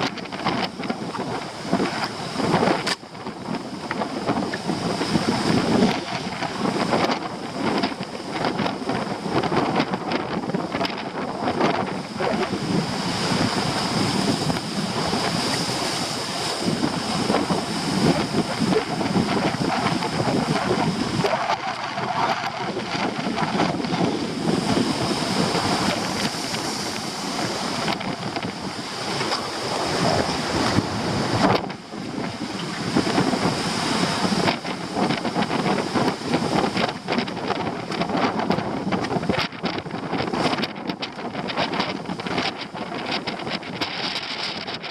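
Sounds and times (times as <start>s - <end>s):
surf breaking on rocks: 0.0s - 44.9s
wind buffeting microphone: 0.0s - 44.9s.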